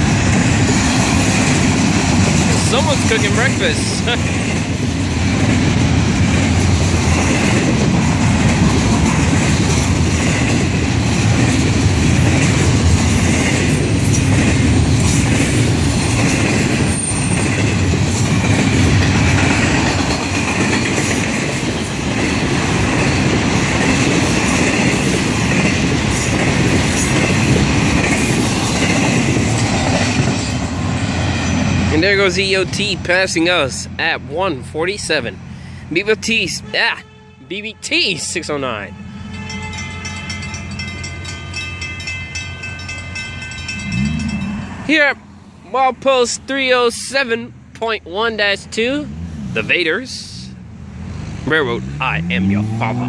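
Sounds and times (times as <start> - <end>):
train wheels rolling on rails: 0.0 - 36.6, 38.2 - 53.0.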